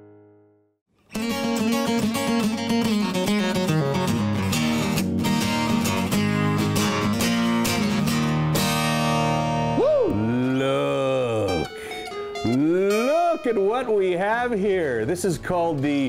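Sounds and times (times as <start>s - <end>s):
acoustic guitar playing: 0.0s - 15.3s.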